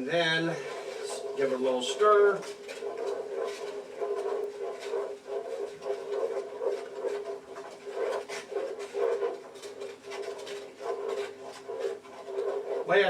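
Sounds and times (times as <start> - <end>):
steady hum: 0.0 - 13.0
utensil scraping a skillet: 0.0 - 13.0.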